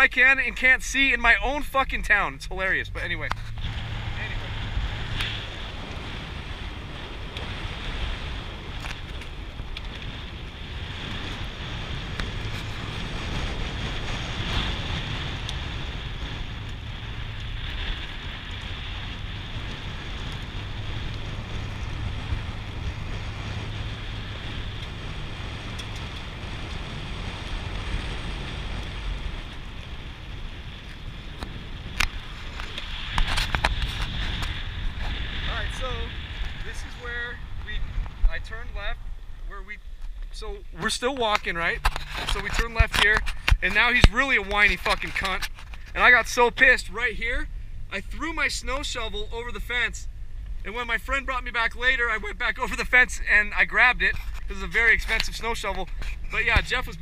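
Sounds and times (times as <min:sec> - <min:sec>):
car tyres on gravel road: 0:00.0 - 0:57.0
wind on microphone: 0:00.0 - 0:57.0.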